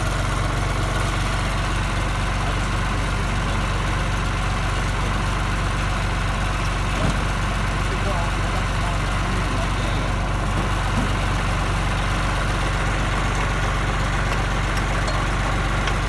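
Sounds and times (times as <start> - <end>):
diesel tractor engine idling: 0.0 - 16.0.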